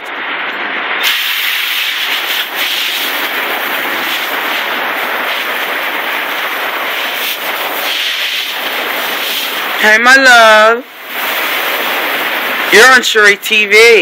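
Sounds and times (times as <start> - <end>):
hose spraying water on floor: 1.0 - 13.3.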